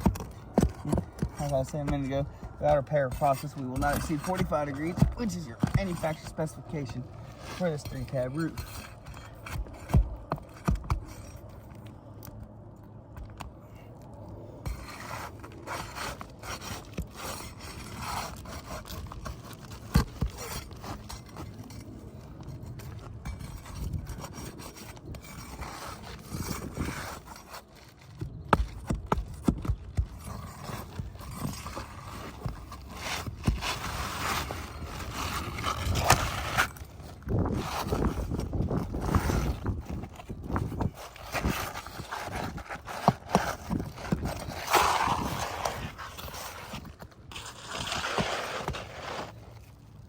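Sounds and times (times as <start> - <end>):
shingles being scraped loose: 0.0 - 11.8, 14.6 - 49.8.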